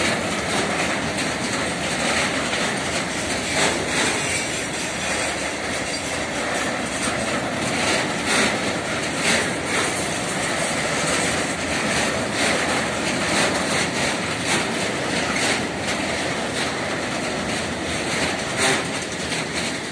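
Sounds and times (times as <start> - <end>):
sharp wheel clacks: 0.0 - 19.9
train wheels rumbling on rails: 0.0 - 19.9.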